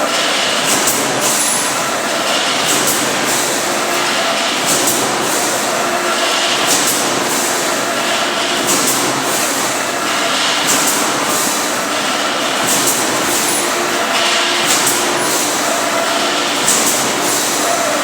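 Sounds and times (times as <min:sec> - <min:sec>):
welding machine clatter: 0:00.1 - 0:18.0.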